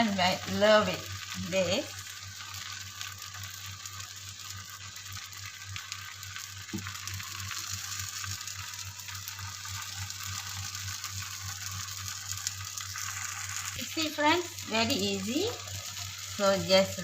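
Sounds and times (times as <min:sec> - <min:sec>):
pancake sizzling on a pan: 0:00.0 - 0:17.0.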